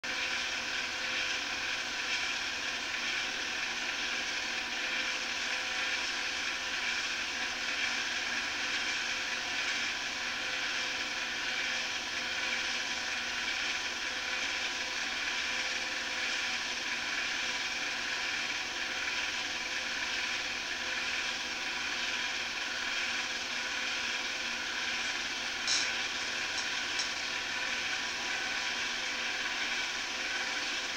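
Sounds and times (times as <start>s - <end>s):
film projector whirring: 0.0s - 30.9s.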